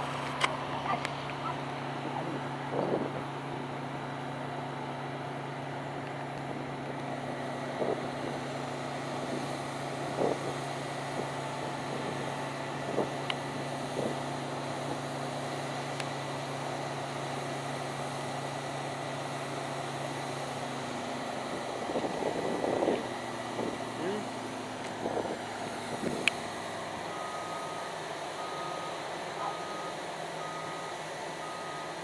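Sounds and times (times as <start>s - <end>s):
diesel harvester engine running: 0.0s - 32.0s.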